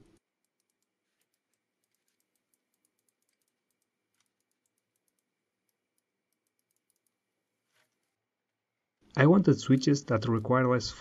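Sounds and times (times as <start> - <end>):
faint irregular ticks: 0.0 - 8.1, 9.1 - 10.8.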